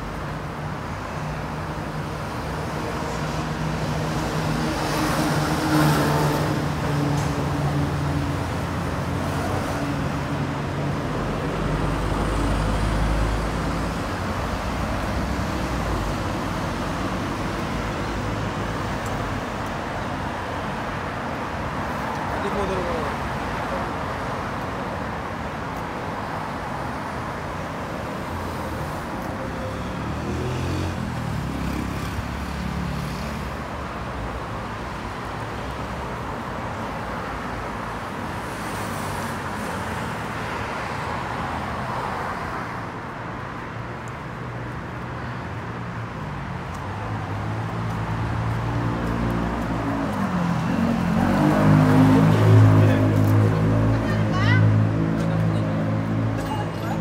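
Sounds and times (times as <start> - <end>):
city road traffic: 0.0 - 57.0.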